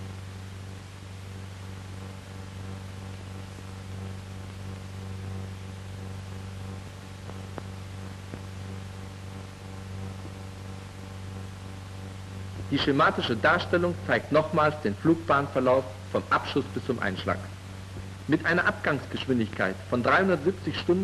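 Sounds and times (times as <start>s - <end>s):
film soundtrack hum and hiss: 0.0s - 21.0s.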